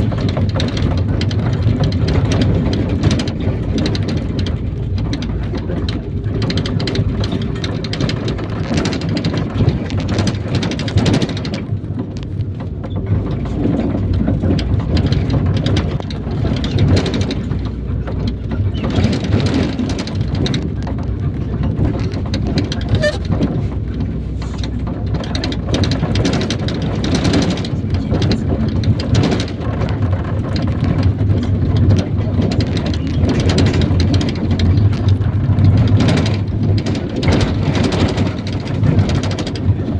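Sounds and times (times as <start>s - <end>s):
body knocks and rattles: 0.0s - 39.9s
bus engine and road rumble: 0.0s - 39.9s.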